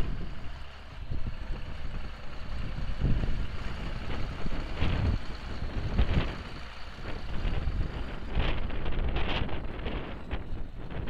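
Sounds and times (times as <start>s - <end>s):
tractor diesel engine driving past: 0.0s - 11.0s.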